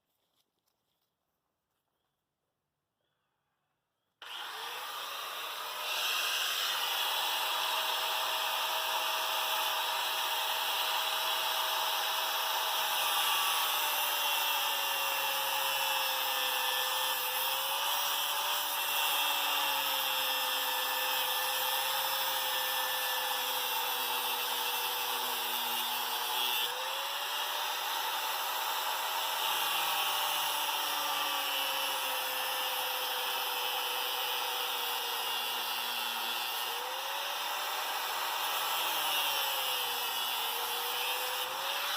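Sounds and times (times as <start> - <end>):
power tool whining: 4.2 - 41.9.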